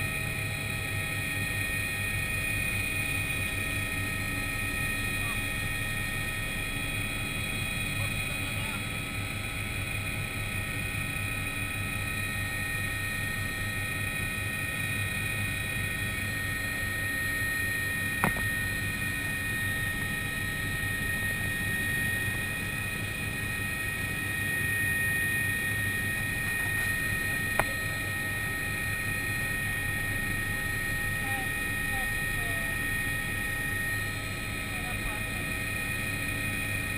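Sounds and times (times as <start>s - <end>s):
helicopter cabin whine: 0.0s - 36.9s
low rotor drone: 0.0s - 36.9s.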